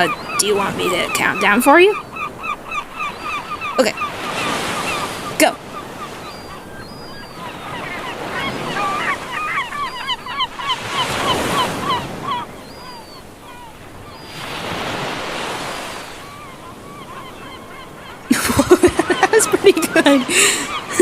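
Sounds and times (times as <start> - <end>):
waves washing in: 0.0 - 17.4, 18.2 - 21.0
birds squawking: 0.0 - 21.0.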